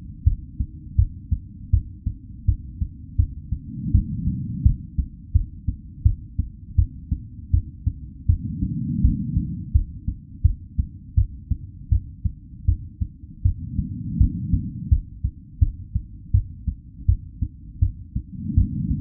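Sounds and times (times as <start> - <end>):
heartbeat thumps: 0.0 - 19.0
low rushing background: 0.0 - 19.0.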